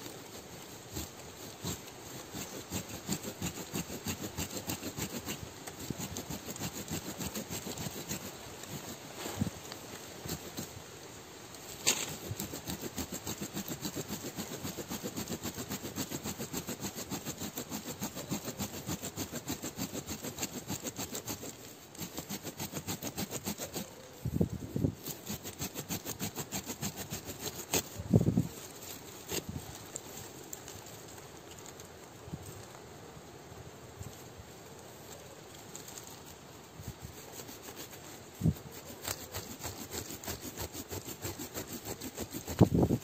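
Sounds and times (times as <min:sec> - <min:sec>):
hand blade digging into soil: 0:00.1 - 0:10.8, 0:11.5 - 0:24.2, 0:24.8 - 0:31.0, 0:35.7 - 0:43.0.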